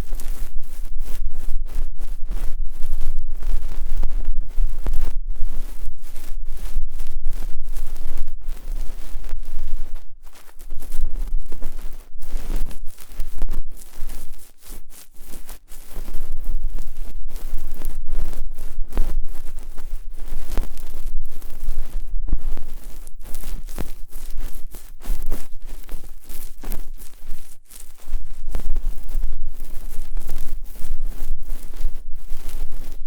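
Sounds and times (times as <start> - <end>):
tool scraping a microphone: 0.0 - 33.0.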